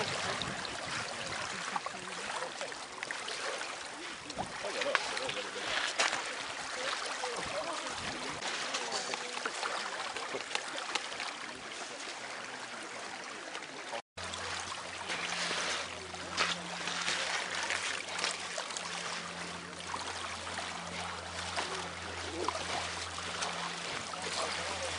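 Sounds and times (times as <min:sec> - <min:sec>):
sea water lapping at shore: 0:00.0 - 0:24.9.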